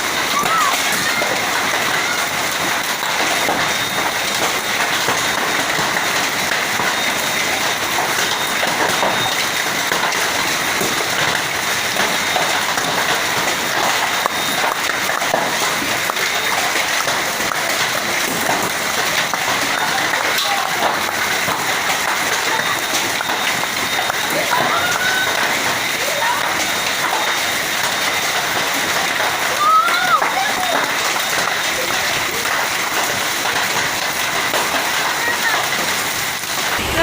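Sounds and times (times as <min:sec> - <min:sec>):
hail and heavy rain: 0:00.0 - 0:37.0.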